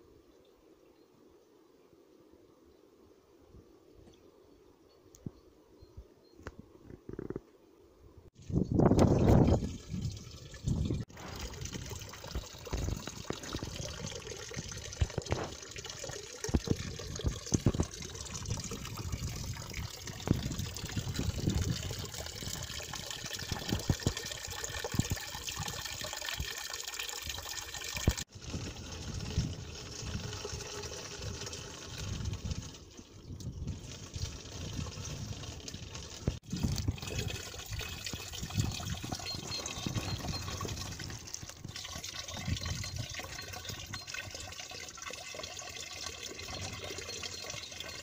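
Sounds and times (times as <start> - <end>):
water pouring into stone trough: 8.8 - 48.0.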